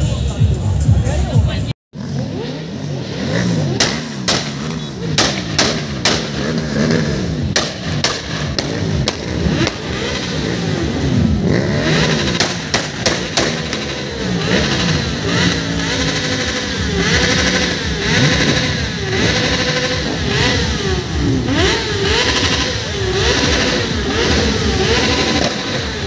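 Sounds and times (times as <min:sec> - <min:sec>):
motorcycle engines revving: 0:00.0 - 0:26.0
sharp bangs: 0:03.2 - 0:11.2, 0:11.8 - 0:26.0.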